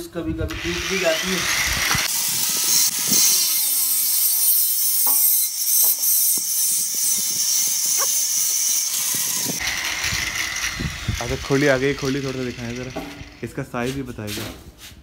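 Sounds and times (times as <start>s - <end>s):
angle grinder on steel: 0.5s - 13.7s.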